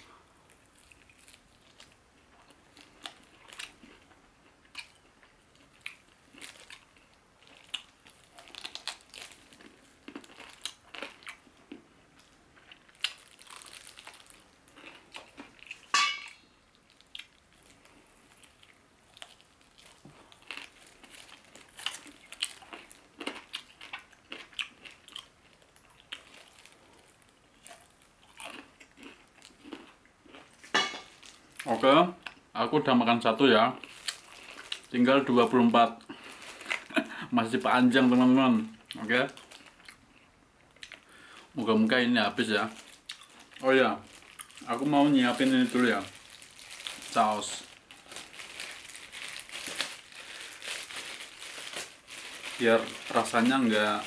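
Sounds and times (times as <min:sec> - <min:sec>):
crunching fried chicken: 0:00.5 - 0:15.9, 0:16.7 - 0:32.4, 0:33.8 - 0:41.8, 0:42.4 - 0:54.0.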